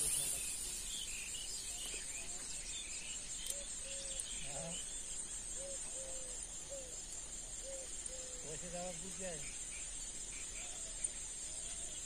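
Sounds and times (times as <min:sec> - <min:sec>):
bird chirps: 0:00.0 - 0:12.0
high-pitched insect chorus: 0:00.0 - 0:12.0.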